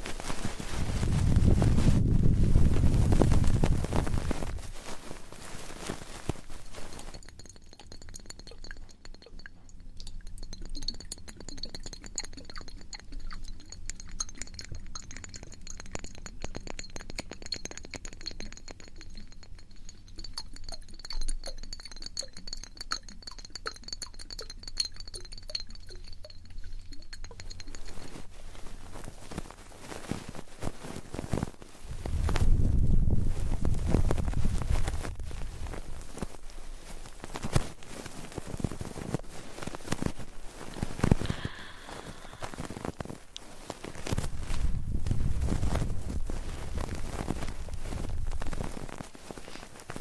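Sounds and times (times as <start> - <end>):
ear cleaning clicks and scratches: 0.0 - 32.7, 33.3 - 50.0.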